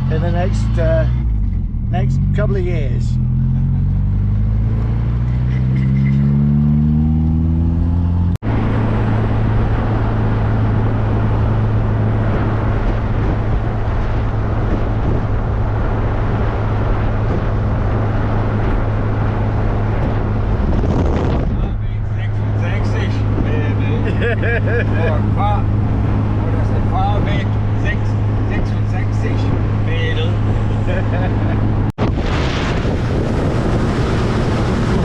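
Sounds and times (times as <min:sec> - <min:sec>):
car engine accelerating: 0:00.0 - 0:35.0
road noise: 0:00.0 - 0:35.0.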